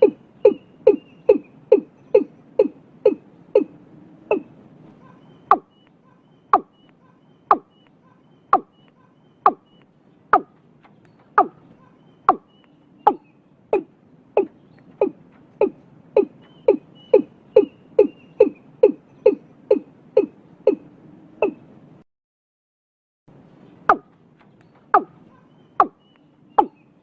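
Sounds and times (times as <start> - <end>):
bird calling hollow notes: 0.0 - 21.7, 23.8 - 27.0.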